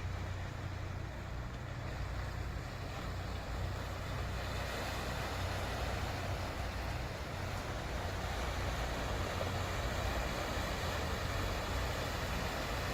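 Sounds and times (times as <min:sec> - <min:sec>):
sea waves washing: 0:00.0 - 0:12.9.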